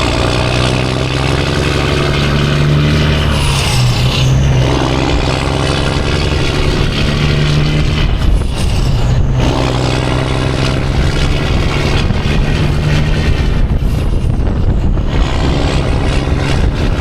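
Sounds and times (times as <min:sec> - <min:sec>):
diesel truck engine drone: 0:00.0 - 0:17.0
road and wind noise: 0:00.0 - 0:17.0.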